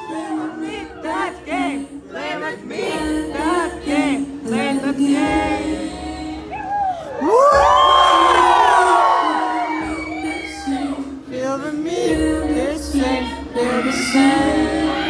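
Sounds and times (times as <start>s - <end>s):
woman singing lead vocal: 0.0s - 15.0s.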